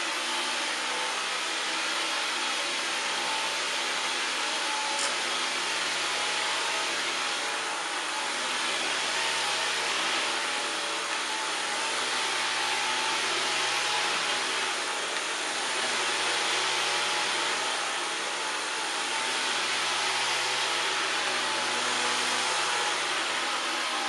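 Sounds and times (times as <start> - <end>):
stick vacuum running: 0.0 - 24.0.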